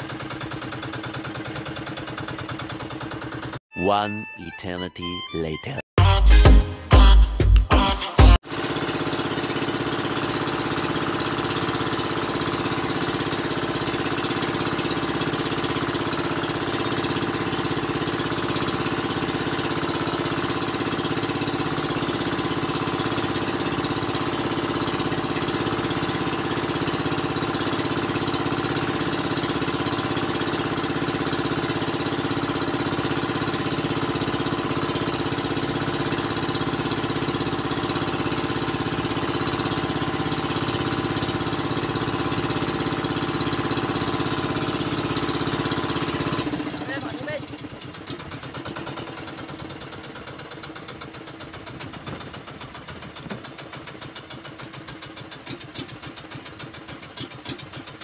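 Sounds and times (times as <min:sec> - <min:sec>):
small engine running steadily: 0:00.0 - 0:03.6, 0:08.4 - 0:58.0.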